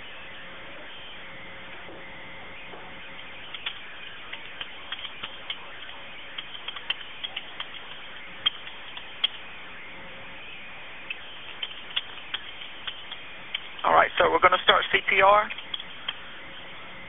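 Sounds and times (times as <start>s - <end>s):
telephone line hiss: 0.0s - 17.0s.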